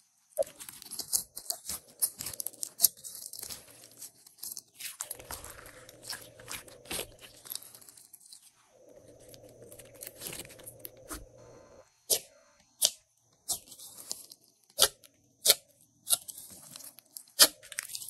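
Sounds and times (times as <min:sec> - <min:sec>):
sticky clicks and crackles: 0:00.4 - 0:11.4, 0:12.6 - 0:18.0.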